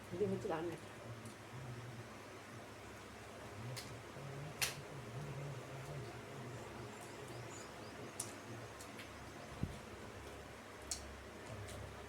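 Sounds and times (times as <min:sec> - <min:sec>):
low closed-mouth hum: 0:00.0 - 0:12.0
faint eating sounds: 0:00.1 - 0:12.0.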